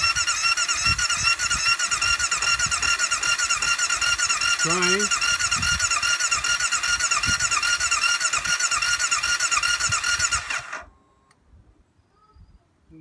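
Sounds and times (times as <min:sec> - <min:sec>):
starter motor cranking engine: 0:00.0 - 0:10.9.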